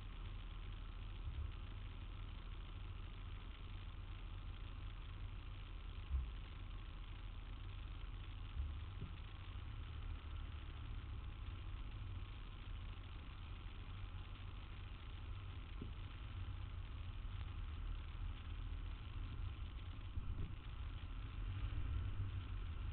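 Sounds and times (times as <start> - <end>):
idling traffic rumble: 0.0 - 22.9.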